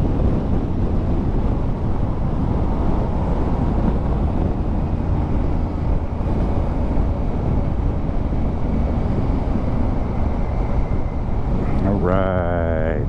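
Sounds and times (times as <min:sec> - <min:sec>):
road noise: 0:00.0 - 0:13.0
wind noise: 0:00.0 - 0:13.0.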